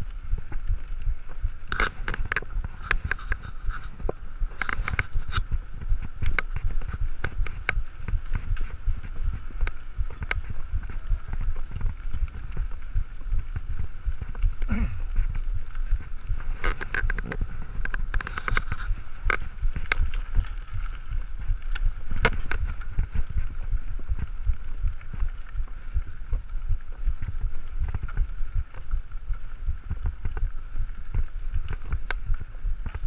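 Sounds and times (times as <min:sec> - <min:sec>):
muffled bike ride rumble: 0:00.0 - 0:33.0
bike clicks and rattles: 0:00.1 - 0:33.0.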